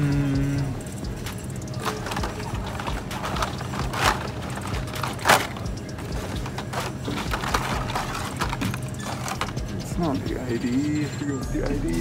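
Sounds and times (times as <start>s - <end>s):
steady low hum: 0.0s - 12.0s
blister packs clacking and rustling: 1.1s - 11.0s.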